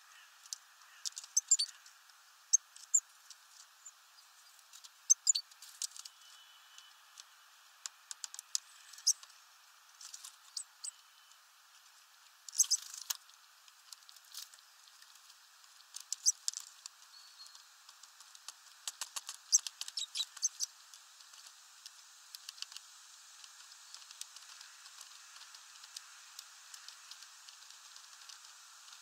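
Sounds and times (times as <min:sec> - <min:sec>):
birds pecking seeds on wood: 0:00.1 - 0:03.7, 0:04.3 - 0:09.4, 0:10.0 - 0:11.0, 0:11.8 - 0:29.0.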